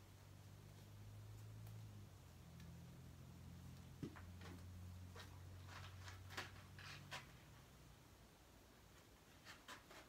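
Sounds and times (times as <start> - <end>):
faint room hum: 0.0 - 10.0
rustles: 0.0 - 10.0.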